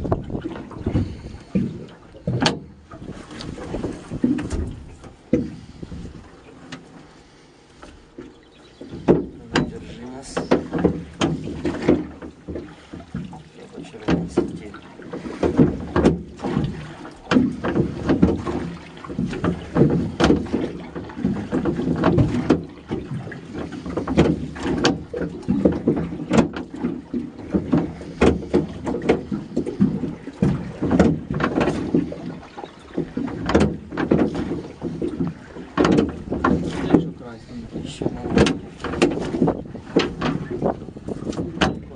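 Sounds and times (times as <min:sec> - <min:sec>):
net knocking against metal hull: 0:00.0 - 0:05.6, 0:08.8 - 0:13.4, 0:14.0 - 0:41.9.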